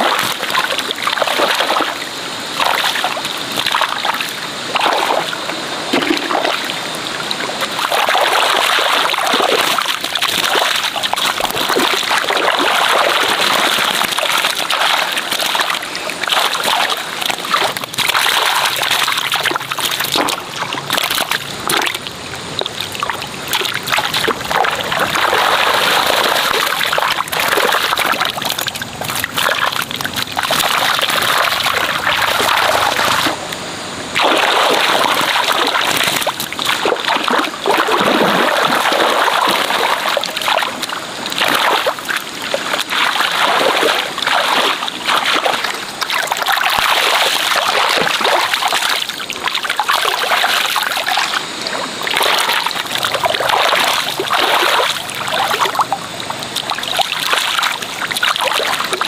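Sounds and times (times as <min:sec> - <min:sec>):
muddy water splashing and sloshing: 0:00.0 - 0:59.0.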